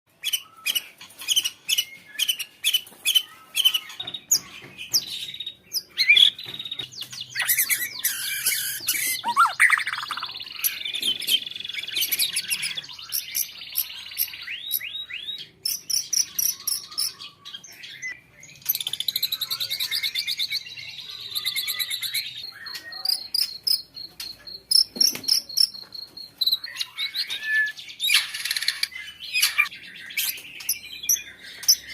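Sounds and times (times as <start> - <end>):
songbird whistles and trills: 0.2 - 31.9.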